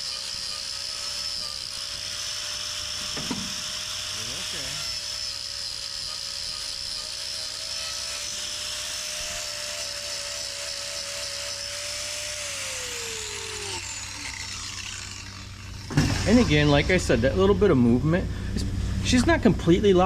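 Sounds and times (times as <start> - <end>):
power grinder whining: 0.0 - 20.0.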